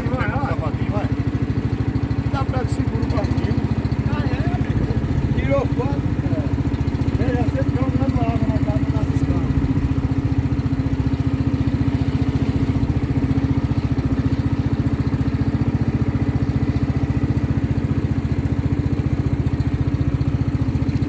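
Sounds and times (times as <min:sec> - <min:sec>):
small boat engine puttering: 0:00.0 - 0:21.0.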